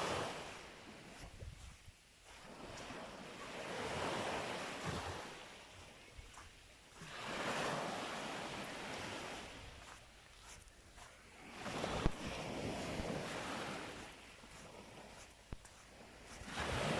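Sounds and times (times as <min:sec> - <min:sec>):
sea waves breaking on beach: 0:00.0 - 0:16.9.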